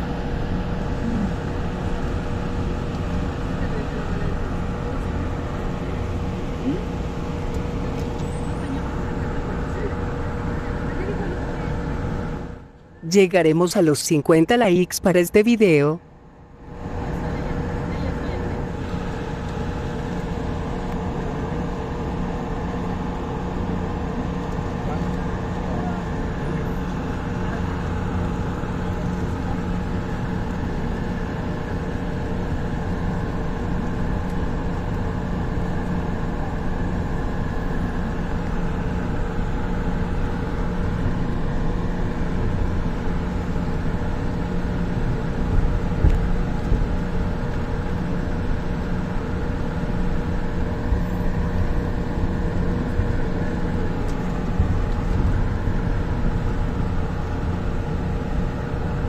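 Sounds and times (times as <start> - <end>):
electric hum: 0.0 - 59.0.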